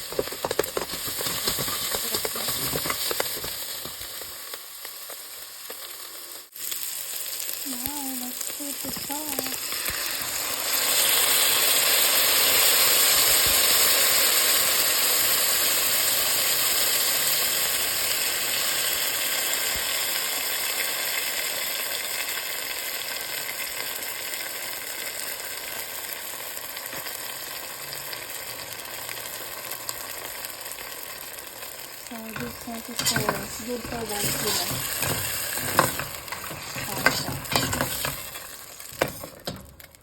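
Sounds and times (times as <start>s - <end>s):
sauce sizzling in a hot pan: 0.0s - 40.0s.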